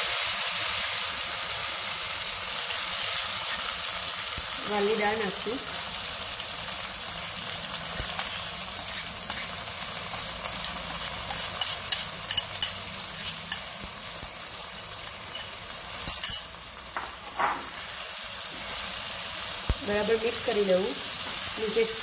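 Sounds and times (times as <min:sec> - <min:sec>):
lentils sizzling in hot oil: 0:00.0 - 0:22.0.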